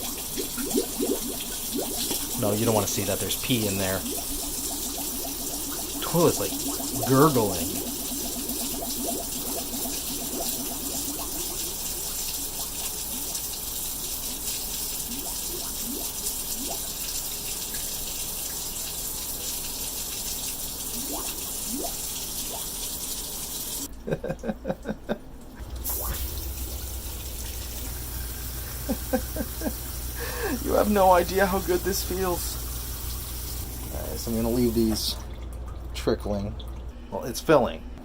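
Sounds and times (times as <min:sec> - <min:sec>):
water gurgling: 0:00.0 - 0:37.7
water running in pipes: 0:00.0 - 0:38.0.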